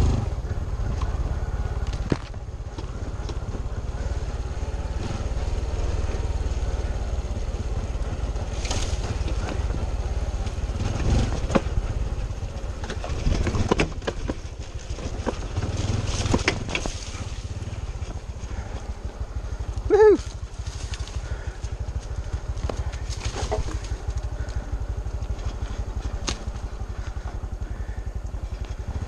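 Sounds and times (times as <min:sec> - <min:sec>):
bike jolting over bumps: 0:00.0 - 0:29.0
motorbike engine running: 0:00.0 - 0:29.0.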